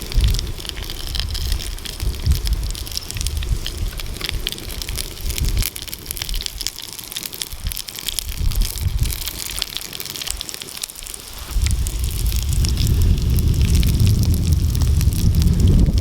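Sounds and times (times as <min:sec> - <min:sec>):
burgers sizzling: 0:00.0 - 0:16.0
fire crackling: 0:00.0 - 0:16.0
wind buffeting microphone: 0:00.0 - 0:16.0.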